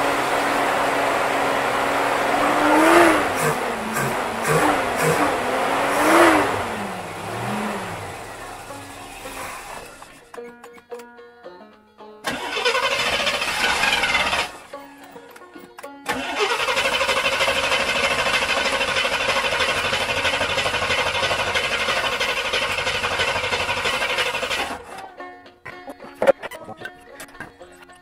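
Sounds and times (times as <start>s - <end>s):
engine starter cranking: 0.0s - 10.8s, 12.3s - 15.4s, 16.1s - 25.1s.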